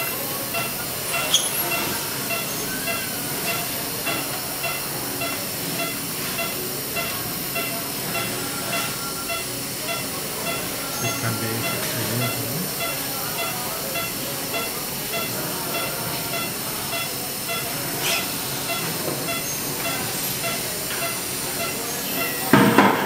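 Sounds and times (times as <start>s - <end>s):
patient monitor pulse beeps: 0.0s - 23.0s
steady hiss: 0.0s - 23.0s.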